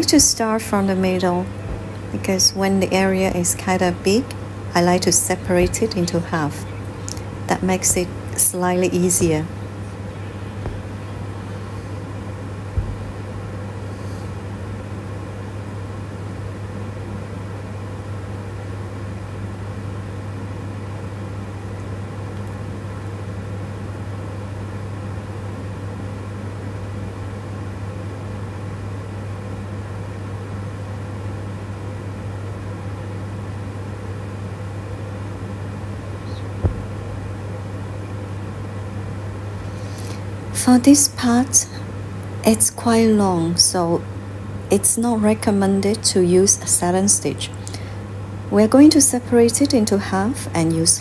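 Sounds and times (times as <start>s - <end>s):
low mechanical hum: 0.0s - 51.0s.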